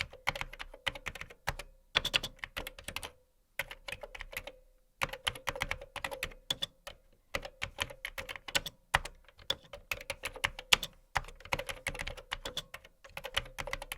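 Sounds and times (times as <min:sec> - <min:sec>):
computer keyboard typing: 0:00.0 - 0:13.9.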